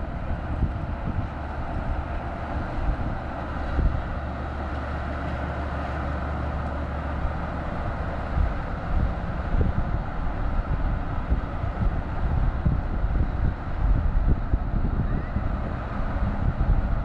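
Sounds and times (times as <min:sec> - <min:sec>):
large vehicle engine rumble: 0:00.0 - 0:17.0
noisy wash: 0:00.0 - 0:17.0.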